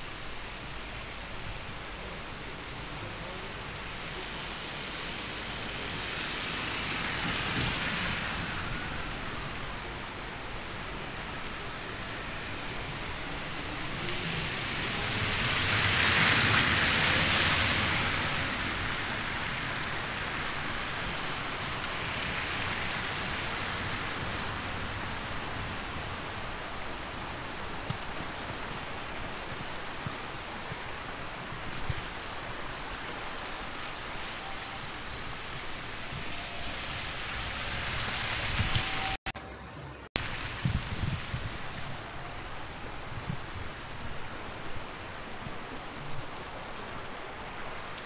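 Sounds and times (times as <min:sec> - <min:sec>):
hiss of falling wet snow: 0:00.0 - 0:39.2, 0:40.2 - 0:48.0.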